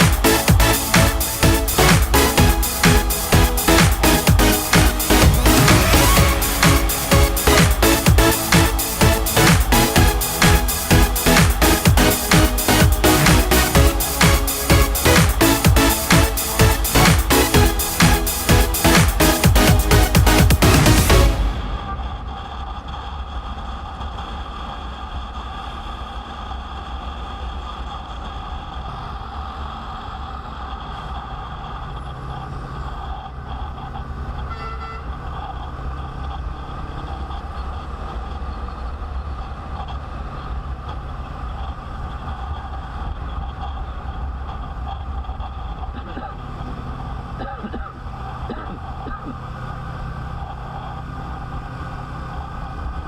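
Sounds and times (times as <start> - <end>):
motorcycle engine drone: 0.0 - 53.0.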